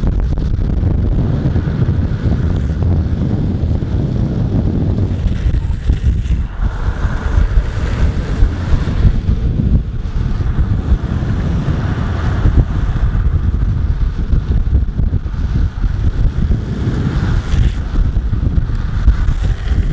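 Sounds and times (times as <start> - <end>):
longboard wheels rolling on asphalt: 0.0 - 19.9
wind buffeting microphone: 0.0 - 19.9.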